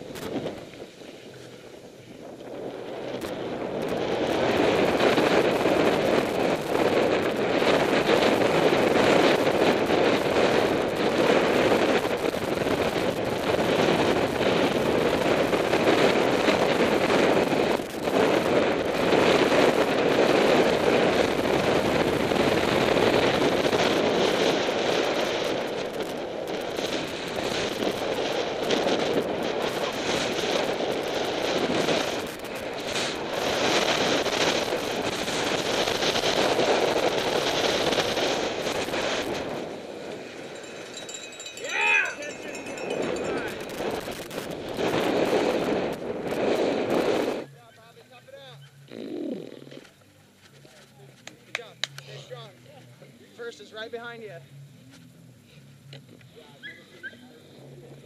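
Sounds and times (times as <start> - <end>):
wind rushing: 0.0 - 47.6
bike rattling over rough ground: 0.0 - 48.8.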